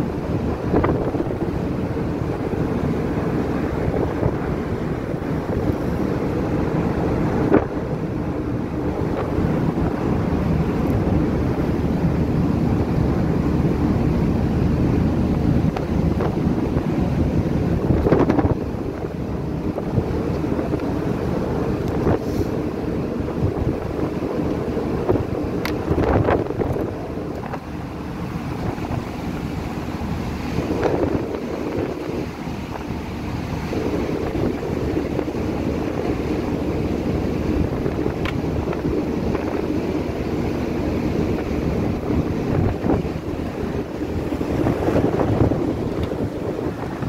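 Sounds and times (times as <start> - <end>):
strong wind on microphone: 0.0 - 47.0.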